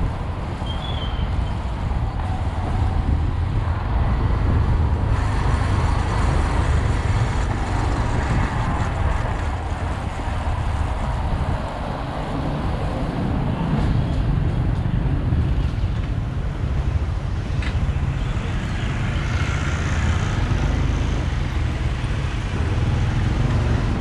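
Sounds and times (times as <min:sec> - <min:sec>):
motorcycle engine and road noise: 0:00.0 - 0:24.0
wind buffeting microphone: 0:00.0 - 0:24.0.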